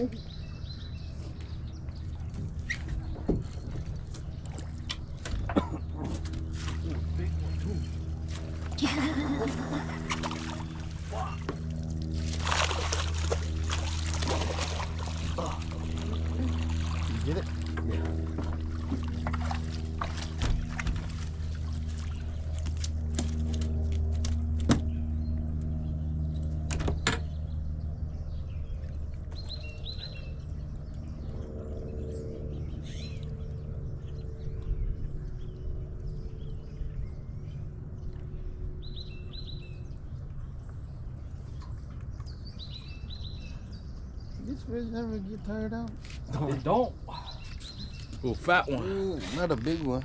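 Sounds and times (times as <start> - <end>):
birds chirping: 0.0 - 50.0
boat engine humming: 0.0 - 50.0.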